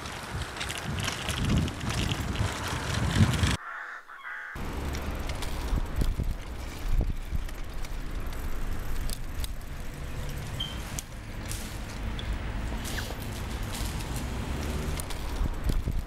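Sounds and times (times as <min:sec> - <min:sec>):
bicycle tyres rolling on road: 0:00.0 - 0:03.6, 0:04.6 - 0:16.0.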